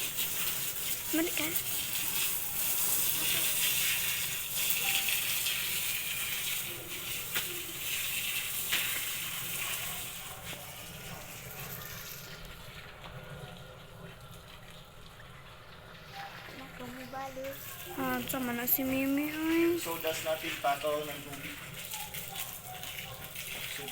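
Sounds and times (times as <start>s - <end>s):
water gushing onto sawdust: 0.0s - 23.9s.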